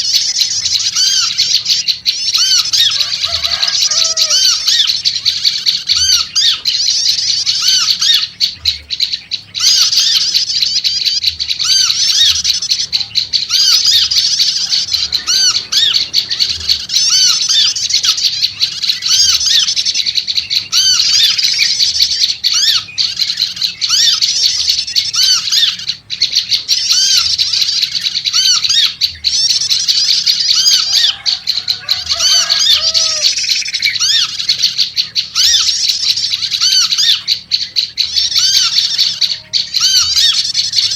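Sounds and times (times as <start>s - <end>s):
songbirds chattering: 0.0s - 40.9s.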